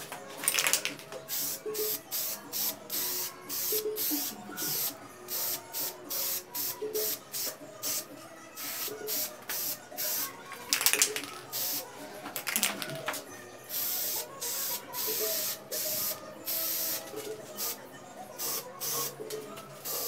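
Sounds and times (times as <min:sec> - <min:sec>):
spray paint can hissing in bursts: 0:00.4 - 0:08.0, 0:08.6 - 0:13.0, 0:13.7 - 0:17.8, 0:18.4 - 0:19.2.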